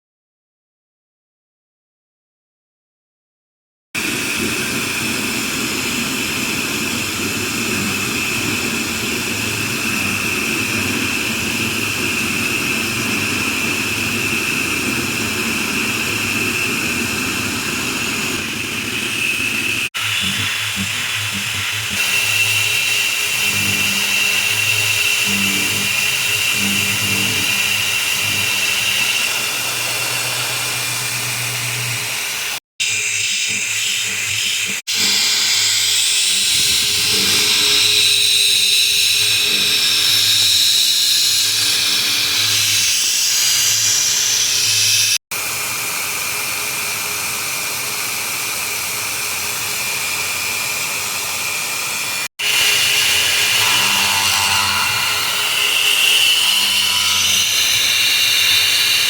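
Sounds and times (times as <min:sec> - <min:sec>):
milling machine whine: 0:04.0 - 0:45.2, 0:48.6 - 0:59.0.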